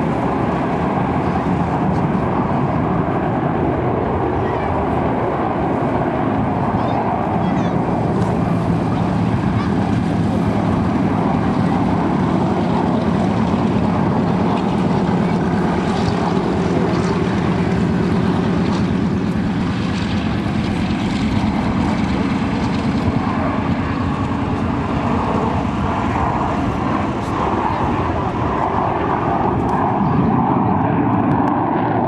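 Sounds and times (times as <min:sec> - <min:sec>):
jet engine noise: 0:00.0 - 0:32.0.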